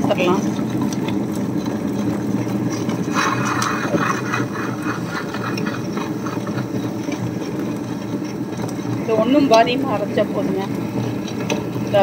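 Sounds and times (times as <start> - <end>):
grinder rattling and scraping: 0.0 - 12.0
wet grinder humming: 0.0 - 12.0.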